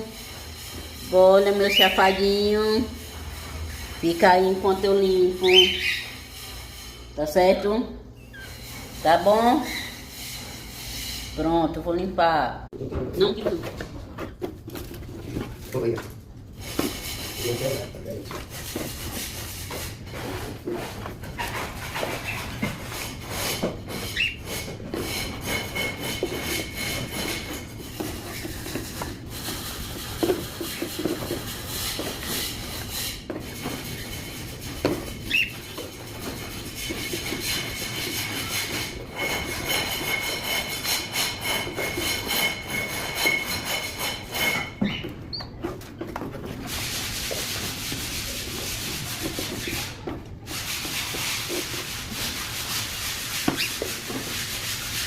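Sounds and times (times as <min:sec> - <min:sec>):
scrubbing a birdcage: 0:00.0 - 0:11.7, 0:13.3 - 0:55.0.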